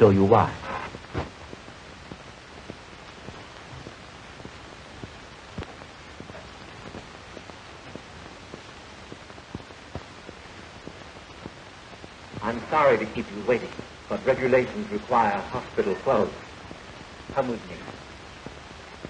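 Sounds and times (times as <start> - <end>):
faint crackles and clicks: 0.0 - 19.0
film soundtrack hiss: 0.0 - 19.0.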